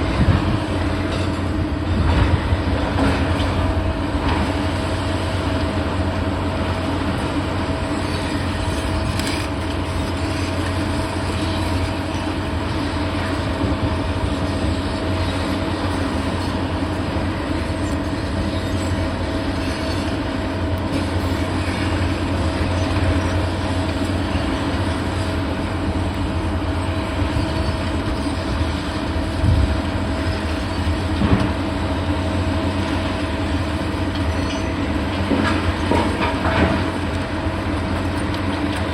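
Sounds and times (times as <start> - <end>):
demolition machinery engine hum: 0.0 - 38.9.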